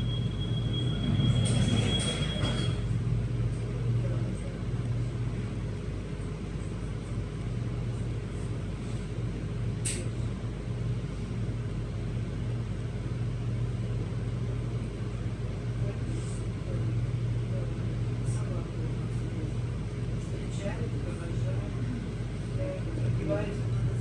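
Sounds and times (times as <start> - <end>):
train carriage low hum: 0.0 - 24.0.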